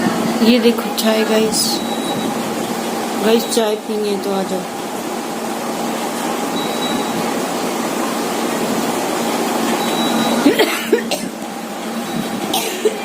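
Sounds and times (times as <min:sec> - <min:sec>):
machine whirring with low hum: 0:00.0 - 0:13.0.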